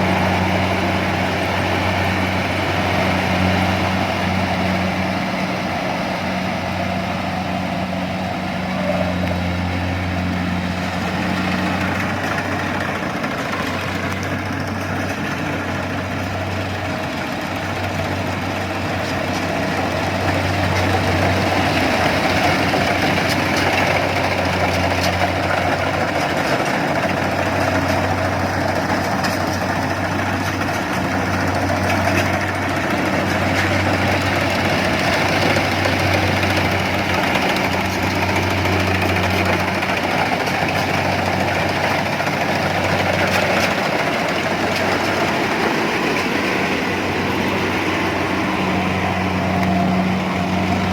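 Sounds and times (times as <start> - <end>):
engine humming: 0.0 - 50.9.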